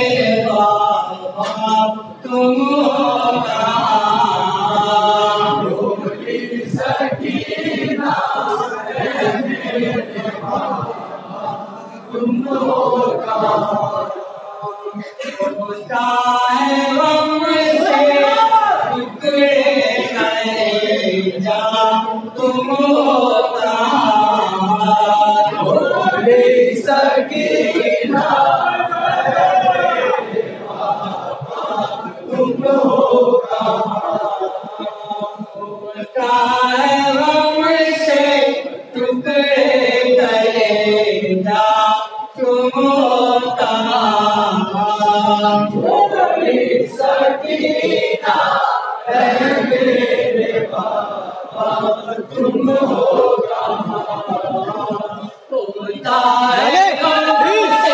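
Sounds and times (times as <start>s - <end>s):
men chanting a lament: 0.0s - 57.9s.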